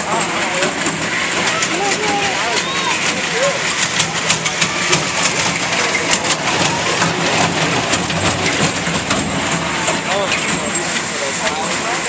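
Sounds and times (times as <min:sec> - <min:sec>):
roller coaster cars rumbling on track: 0:00.0 - 0:12.0
sharp clicks and rattles: 0:00.0 - 0:12.0.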